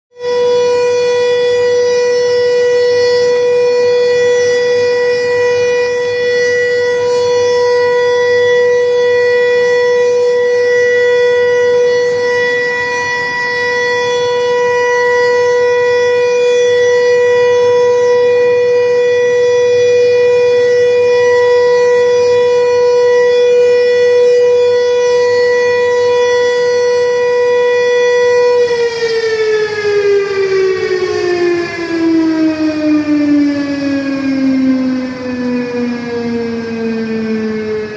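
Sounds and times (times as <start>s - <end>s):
floodgate siren steady tone: 0.1s - 37.9s.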